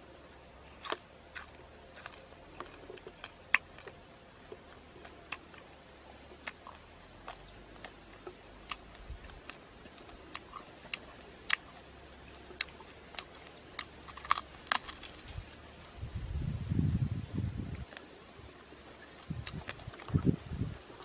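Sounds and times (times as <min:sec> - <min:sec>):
person chewing crunchy food: 0:00.0 - 0:16.0, 0:17.8 - 0:21.0.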